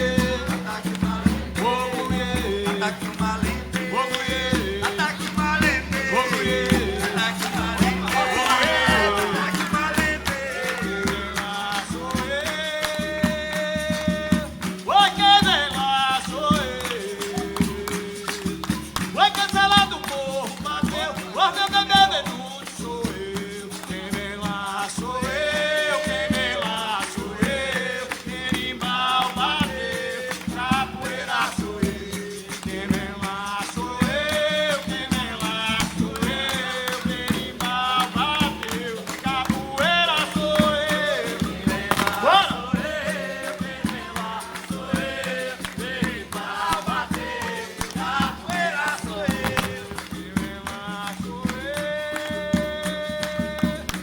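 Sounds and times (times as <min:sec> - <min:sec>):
berimbau and shaker percussion: 0:00.0 - 0:54.0
voices singing: 0:00.0 - 0:54.0.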